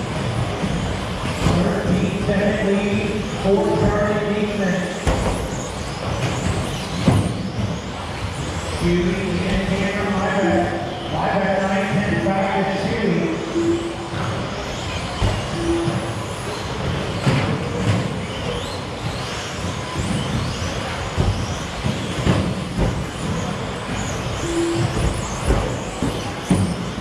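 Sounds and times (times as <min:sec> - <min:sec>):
electric motors whining: 0:00.0 - 0:27.0.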